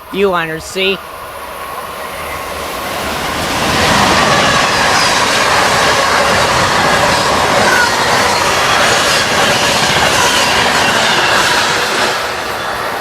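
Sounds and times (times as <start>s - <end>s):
train wheels rolling on rails: 1.0s - 13.0s.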